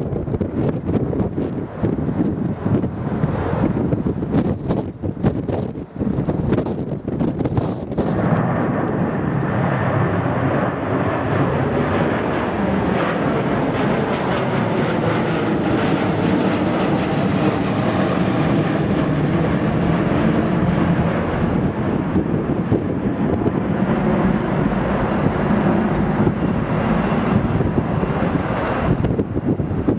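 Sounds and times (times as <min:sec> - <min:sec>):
jet airliner engines rushing: 0:00.0 - 0:29.9
wind buffeting microphone: 0:00.0 - 0:29.9.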